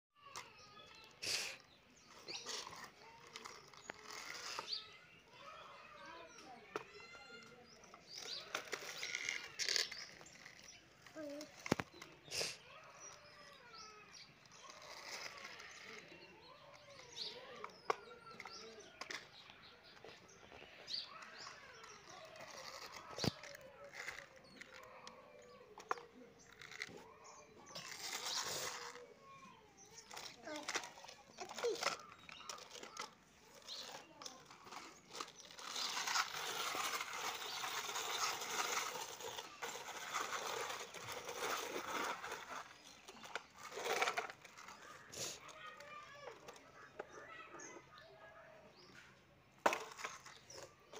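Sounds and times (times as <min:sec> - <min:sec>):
plastic toys clicking on concrete: 0:00.2 - 0:50.9.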